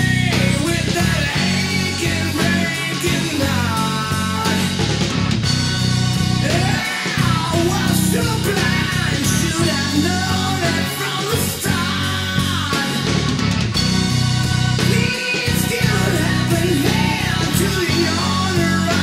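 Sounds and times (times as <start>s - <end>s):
rock band playing: 0.0s - 19.0s
sliding melody line: 0.0s - 19.0s.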